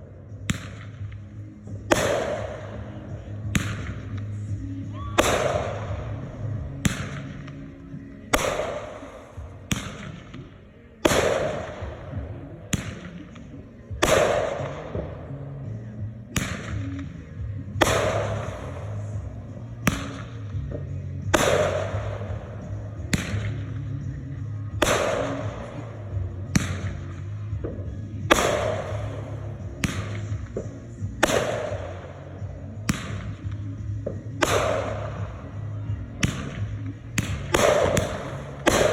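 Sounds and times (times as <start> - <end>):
background music: 0.0 - 38.9
firework crackle and rumble: 0.0 - 38.9
firework shells exploding: 0.5 - 1.2, 1.9 - 24.1, 24.8 - 38.9.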